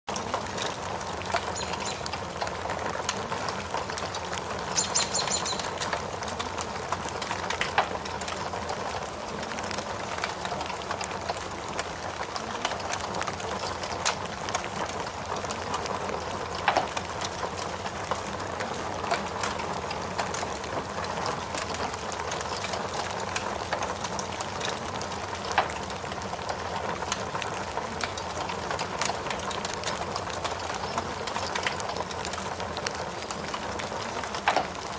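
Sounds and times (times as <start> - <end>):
steady rain hiss: 0.1 - 34.9
wood fire crackling and popping: 0.1 - 34.9.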